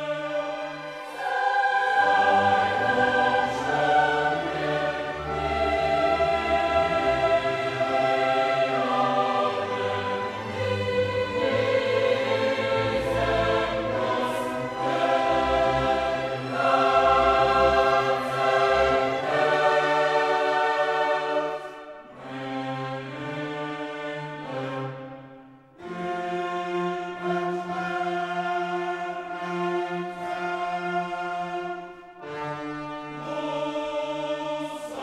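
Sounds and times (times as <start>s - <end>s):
choir singing held chords: 0.0s - 26.4s, 27.0s - 35.0s
orchestral accompaniment: 0.0s - 35.0s.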